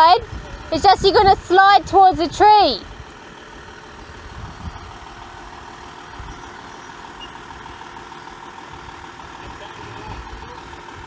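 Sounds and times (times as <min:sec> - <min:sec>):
car engine idling rumble: 0:00.0 - 0:11.0.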